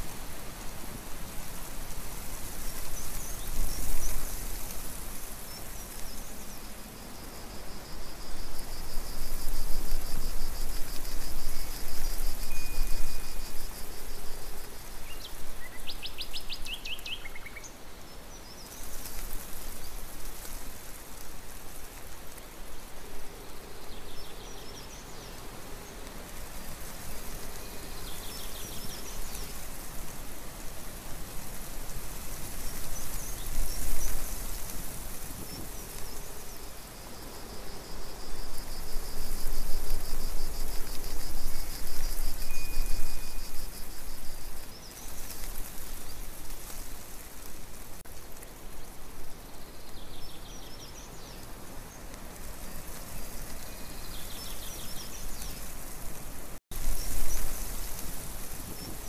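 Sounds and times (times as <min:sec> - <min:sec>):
wind rustling through foliage: 0:00.0 - 0:59.0.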